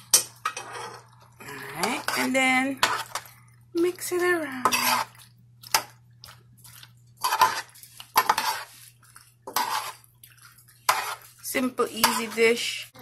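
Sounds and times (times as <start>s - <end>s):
spoon scraping a pan: 0.0s - 3.4s, 4.5s - 6.0s, 7.2s - 12.9s.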